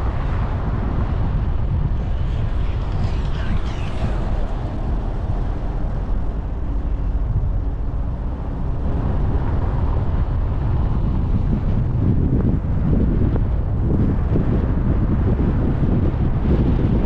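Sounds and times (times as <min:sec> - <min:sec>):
car road and wind noise: 0:00.0 - 0:17.0
low engine rumble: 0:00.0 - 0:17.0.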